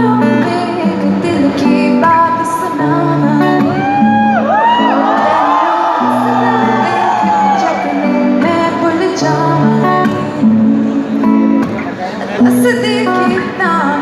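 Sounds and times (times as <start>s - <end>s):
woman singing: 0.0s - 11.7s, 12.4s - 14.0s
acoustic guitar: 0.0s - 14.0s.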